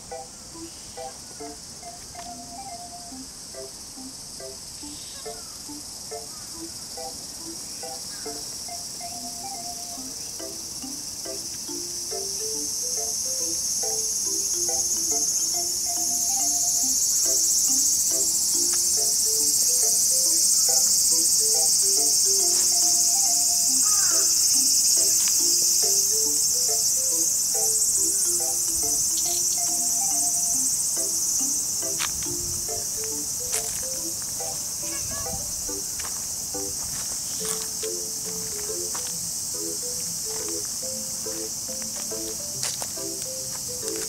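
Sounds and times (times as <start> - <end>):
high-pitched insect chorus: 0.0 - 44.0
simple repeating background melody: 0.0 - 44.0.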